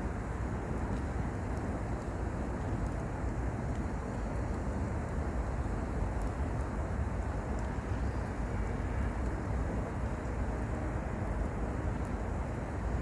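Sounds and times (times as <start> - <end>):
faint fire crackles: 0.0 - 13.0
fire rushing: 0.0 - 13.0.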